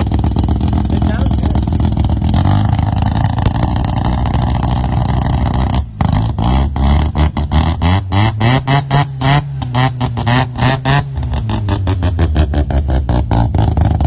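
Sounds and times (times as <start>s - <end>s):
rotary engine revving: 0.0s - 14.0s.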